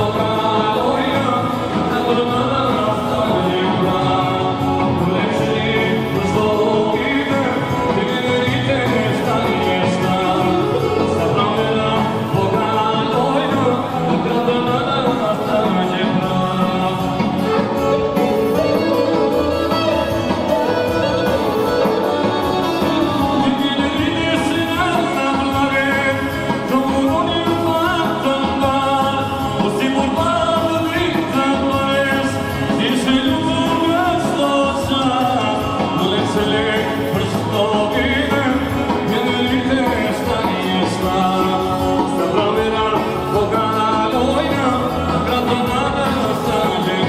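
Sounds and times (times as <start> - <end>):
folk dance music over speakers: 0.0 - 47.0
person singing: 0.0 - 47.0.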